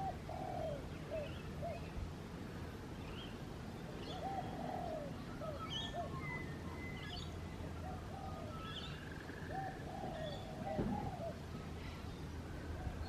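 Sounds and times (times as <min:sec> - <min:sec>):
low arching bird call: 0:00.0 - 0:01.9, 0:04.0 - 0:13.0.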